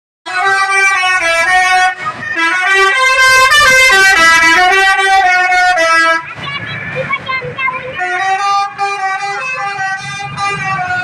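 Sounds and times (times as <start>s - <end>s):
musical air horn melody: 0.3s - 6.2s, 8.0s - 11.0s.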